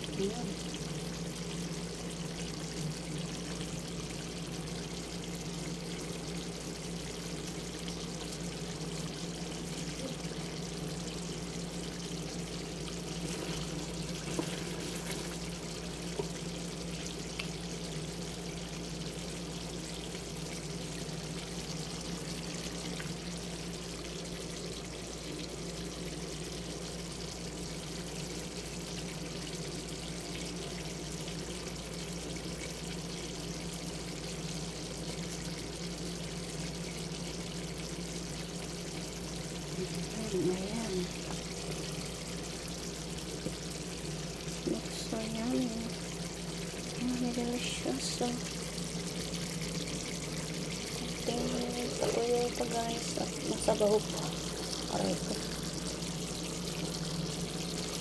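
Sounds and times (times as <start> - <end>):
sauce bubbling and sizzling: 0.0 - 58.0
steady low hum: 0.0 - 58.0.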